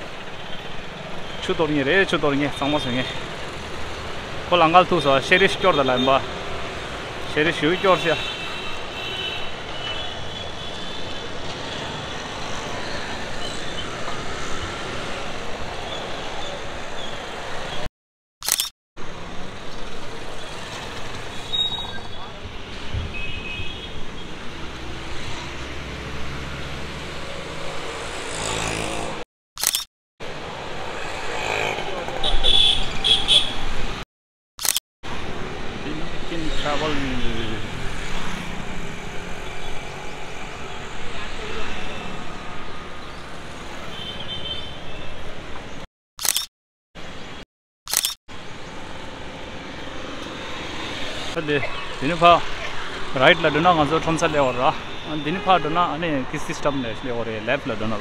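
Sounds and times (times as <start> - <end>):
vehicles passing: 0.0 - 17.9, 19.0 - 29.2, 30.2 - 34.0, 35.0 - 45.9, 48.3 - 58.0
roadside traffic noise: 0.0 - 58.0.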